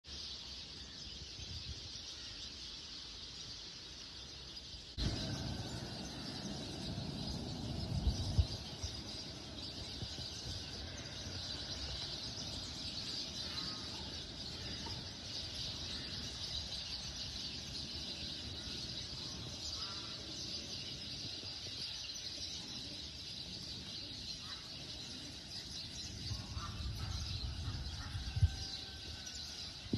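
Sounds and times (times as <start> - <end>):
small birds chirping: 0.0 - 29.9
low city rumble: 4.8 - 29.9.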